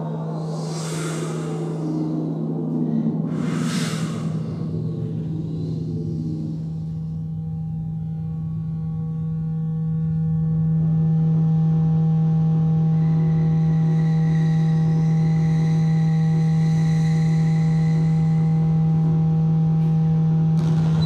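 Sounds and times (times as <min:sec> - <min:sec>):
electronic low drone: 0:00.0 - 0:21.0.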